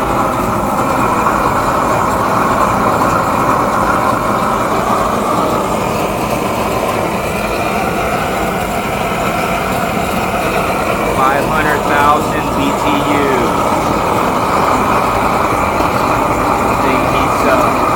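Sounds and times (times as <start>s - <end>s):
propane torch flame roaring: 0.0s - 17.9s.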